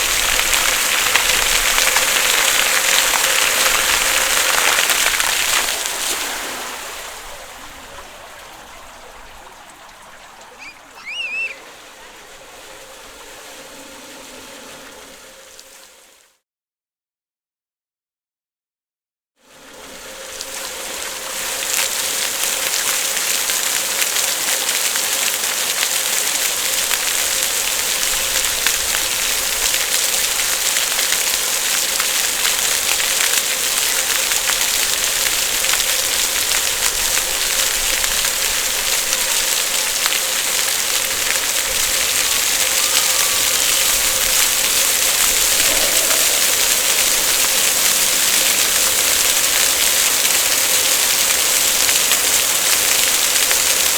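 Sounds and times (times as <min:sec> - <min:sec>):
water fountain splashing: 0:00.0 - 0:16.2, 0:19.6 - 0:53.9.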